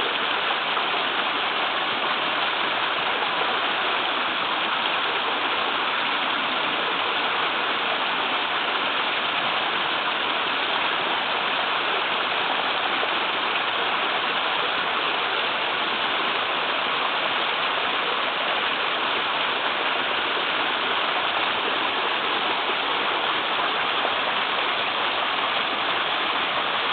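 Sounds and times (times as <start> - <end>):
small waterfall rushing: 0.0 - 26.9.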